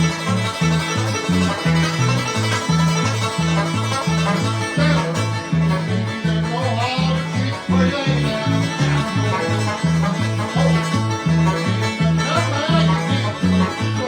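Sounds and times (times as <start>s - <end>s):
banjo: 0.0s - 14.0s
bass line on two low notes: 0.0s - 14.0s
guitar playing fast tune: 0.0s - 14.0s.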